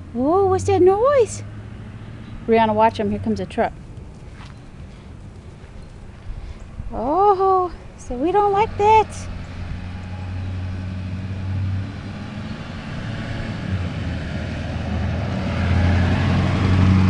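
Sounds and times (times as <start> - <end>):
truck engine driving past: 0.0 - 17.0.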